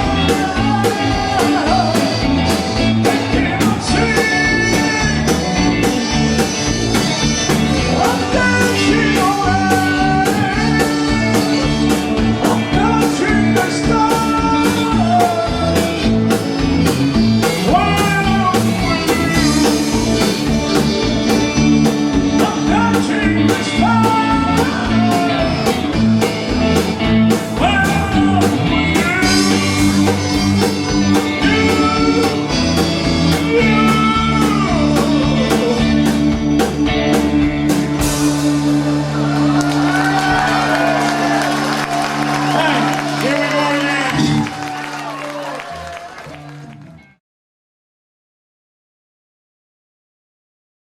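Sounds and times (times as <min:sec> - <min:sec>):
band music with gliding melody: 0:00.0 - 0:47.2.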